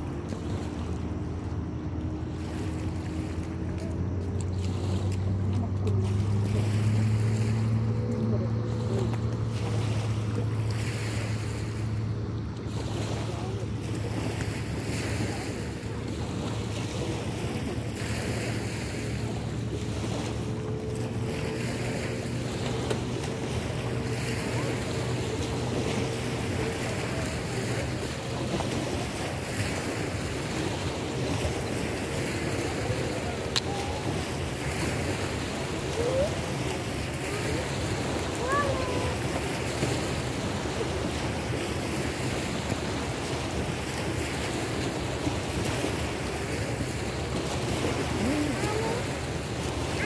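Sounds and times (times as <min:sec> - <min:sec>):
water lapping at concrete shore: 0:00.0 - 0:50.0.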